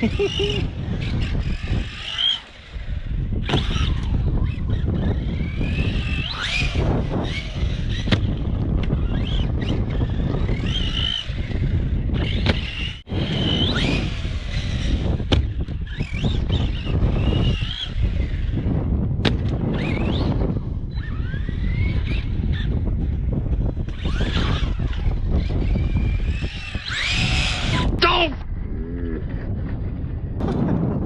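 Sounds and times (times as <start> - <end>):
electric motor whining: 0.0 - 28.0
wind rumble on microphone: 0.0 - 31.0.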